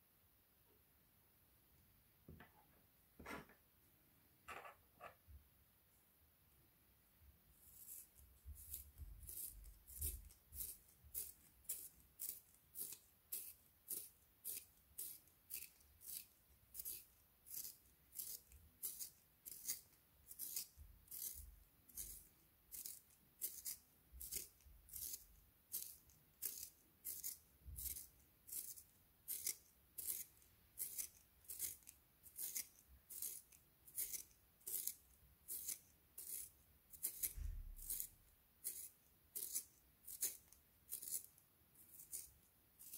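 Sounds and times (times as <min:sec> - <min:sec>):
pencil sharpener scraping wood: 0:07.6 - 0:25.2, 0:25.8 - 0:42.9.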